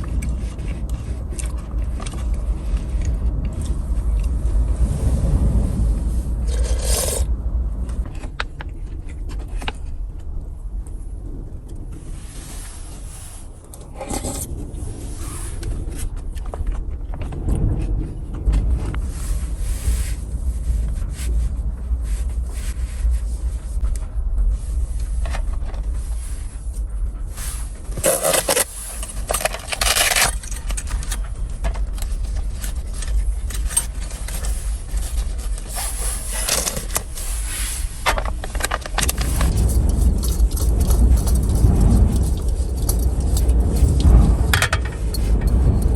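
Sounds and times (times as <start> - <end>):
irregular scraping and rubbing: 0.0 - 10.0, 12.0 - 45.9
steady low rumble: 0.0 - 45.9.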